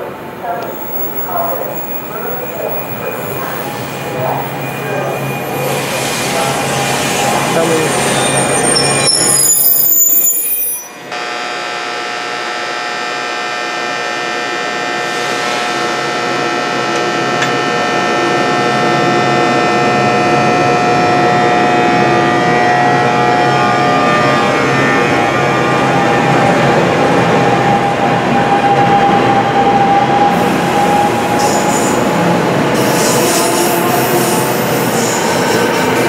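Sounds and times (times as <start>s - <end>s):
electric train whine: 0.0s - 36.0s
train rumbling: 0.0s - 36.0s.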